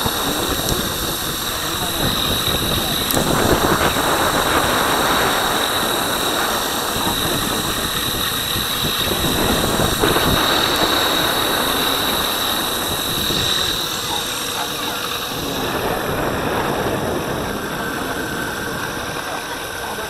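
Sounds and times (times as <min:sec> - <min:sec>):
electric motor high whine: 0:00.0 - 0:20.0
tyres rolling on asphalt: 0:00.0 - 0:20.0
wind rush: 0:00.0 - 0:20.0.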